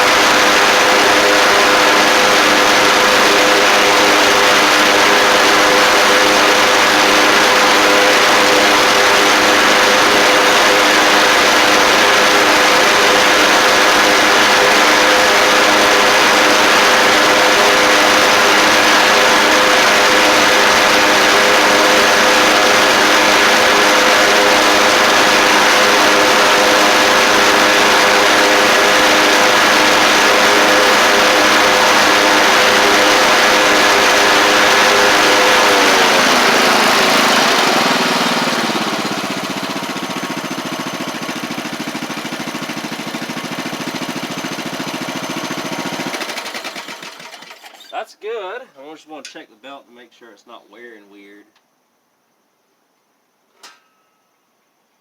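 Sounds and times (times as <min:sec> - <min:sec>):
lawn tractor engine running: 0:00.0 - 0:48.0.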